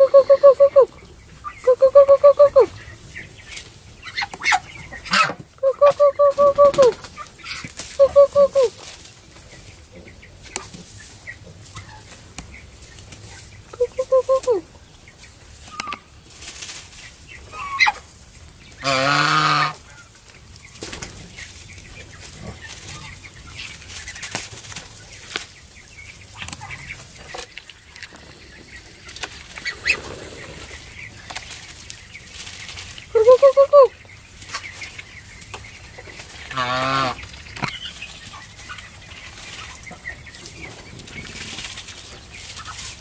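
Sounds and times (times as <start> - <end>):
poultry calls: 0.0 - 43.0
plastic bag and straw rustling: 1.4 - 43.0
ducks pecking clicks: 3.5 - 14.6, 15.4 - 43.0.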